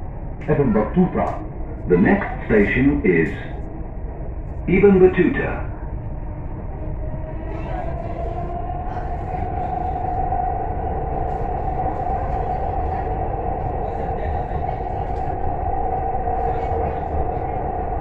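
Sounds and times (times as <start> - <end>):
constant whine: 0.0 - 18.0
train rumble: 0.0 - 18.0.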